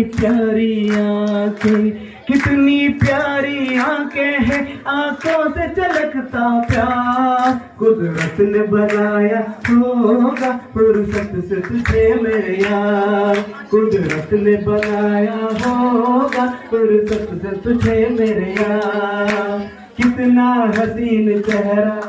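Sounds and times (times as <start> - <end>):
hands clapping along: 0.0 - 22.0
man singing through microphone: 0.0 - 22.0.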